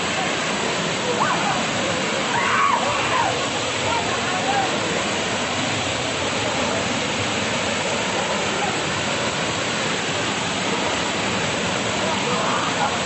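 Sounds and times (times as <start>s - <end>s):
waterfall pouring onto rocks: 0.0s - 13.0s.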